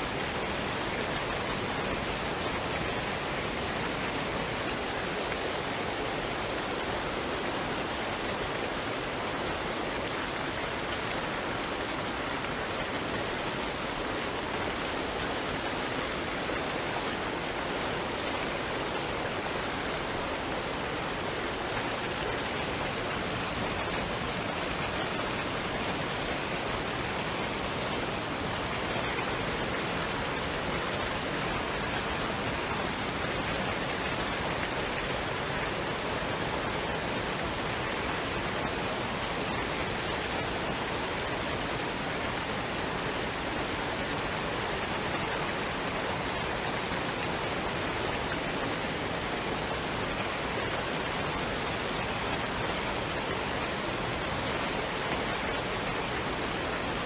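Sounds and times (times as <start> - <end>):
waterfall and stream running: 0.0 - 57.0.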